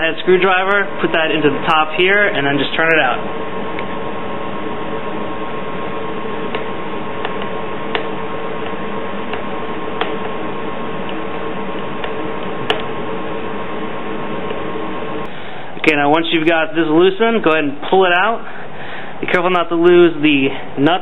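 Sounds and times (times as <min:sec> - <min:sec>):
steady hum and hiss: 0:00.0 - 0:21.0.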